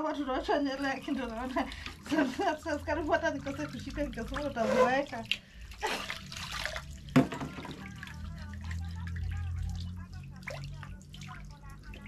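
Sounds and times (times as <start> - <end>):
water splashing into basin: 0.2 - 12.0.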